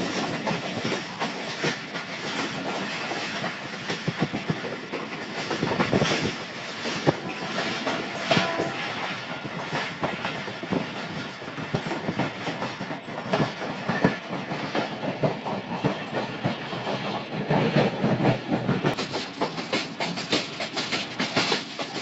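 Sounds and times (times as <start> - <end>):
train wheels clattering: 0.0 - 22.0.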